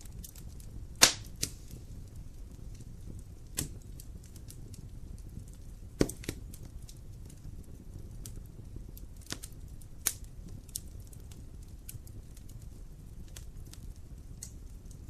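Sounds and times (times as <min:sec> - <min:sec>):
fire rumbling: 0:00.0 - 0:15.0
firewood crackling and popping: 0:00.0 - 0:15.0.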